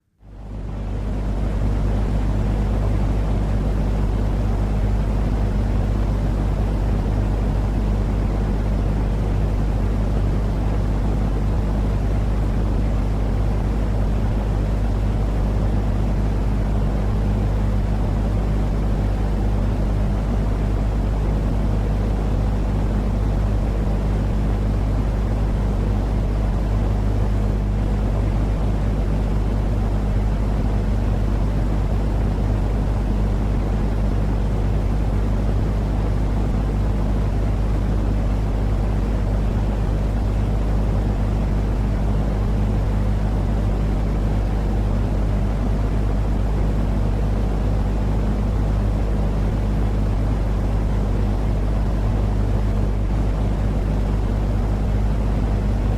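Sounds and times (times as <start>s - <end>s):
white noise: 0.0s - 55.9s.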